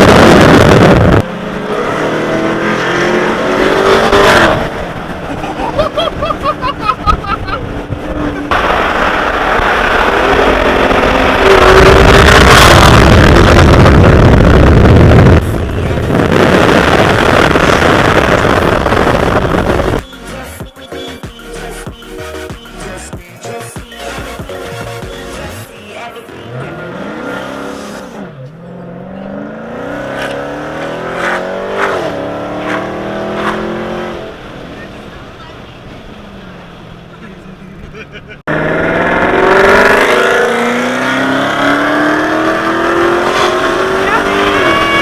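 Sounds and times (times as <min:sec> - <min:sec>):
loud car engine accelerating: 0:00.0 - 0:20.0, 0:26.3 - 0:45.0.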